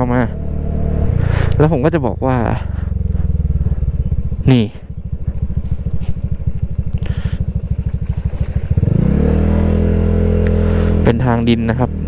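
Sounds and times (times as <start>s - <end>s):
scooter engine accelerating: 0.0s - 12.0s.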